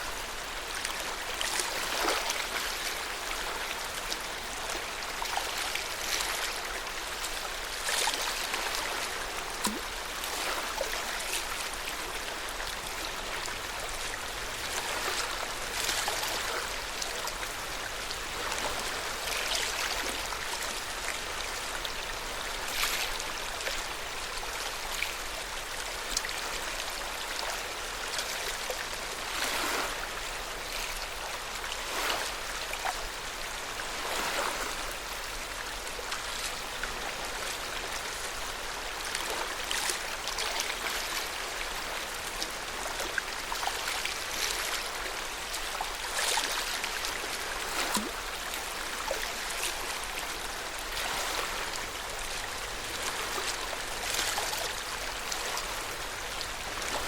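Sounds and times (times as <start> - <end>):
water lapping at shore: 0.0 - 57.0.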